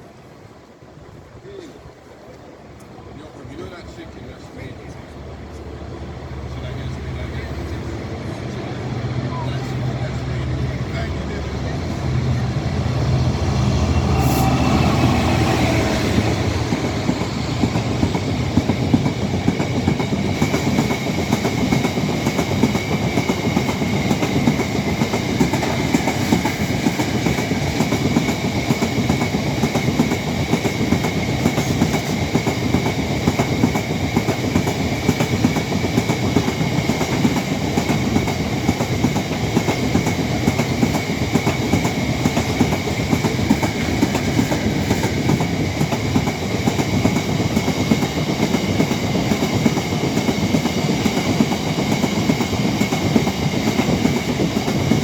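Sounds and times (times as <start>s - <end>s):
diesel locomotive engine passing: 0.0s - 55.0s.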